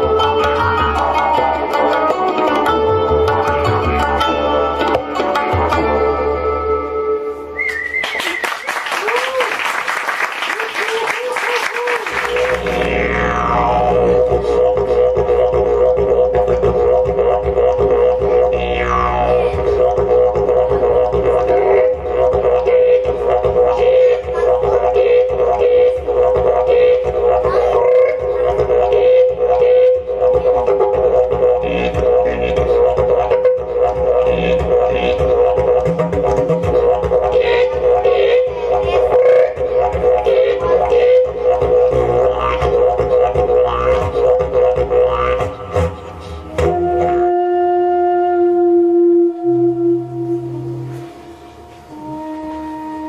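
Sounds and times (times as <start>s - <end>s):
didgeridoo drone: 0.0s - 7.1s, 12.0s - 53.0s.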